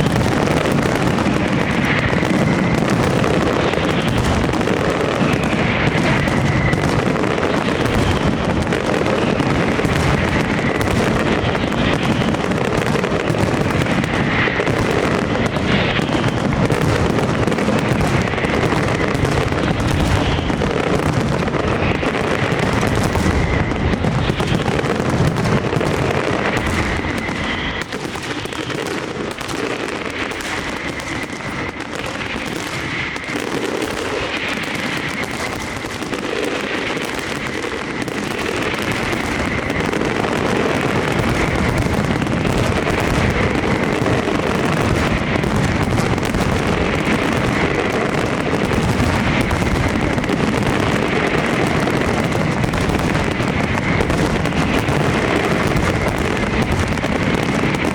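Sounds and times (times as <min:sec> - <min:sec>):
fireworks bursting and crackling: 0:00.0 - 0:57.9
fireworks whistling: 0:00.0 - 0:57.9.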